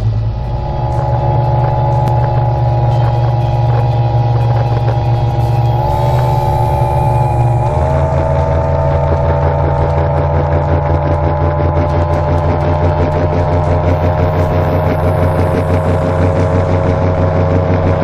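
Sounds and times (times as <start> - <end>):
outboard engine running at high speed: 0.0 - 18.0.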